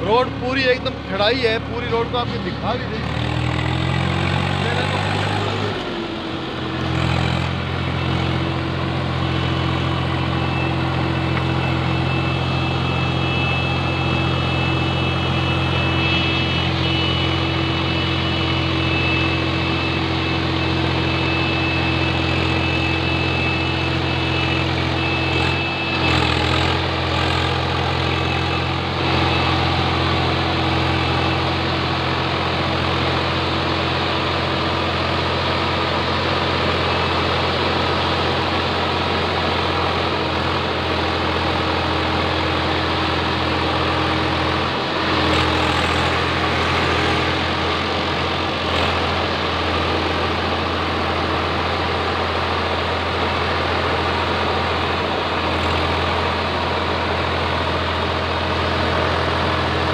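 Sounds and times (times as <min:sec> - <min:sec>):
engine running steadily: 0:00.0 - 0:59.9
road noise: 0:00.0 - 0:59.9
faint high whine: 0:07.6 - 0:59.9.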